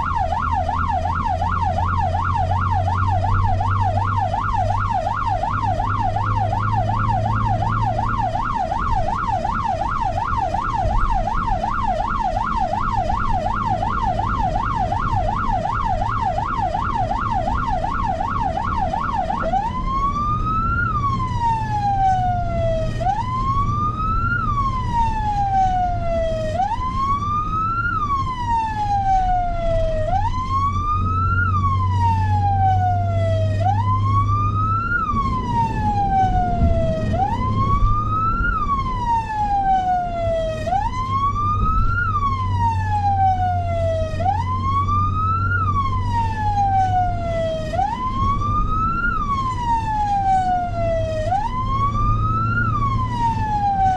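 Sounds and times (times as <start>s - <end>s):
electronic siren wailing: 0.0s - 53.9s.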